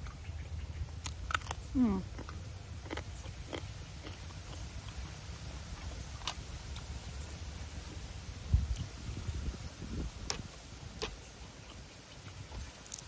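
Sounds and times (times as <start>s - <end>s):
close chewing: 0.0s - 9.3s, 10.0s - 13.0s
steady low rumble: 0.0s - 12.8s.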